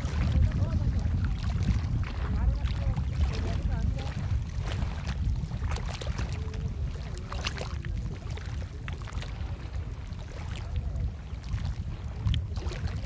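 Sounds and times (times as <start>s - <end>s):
low steady rumble: 0.0s - 13.0s
water splashing around canoe: 0.0s - 13.0s.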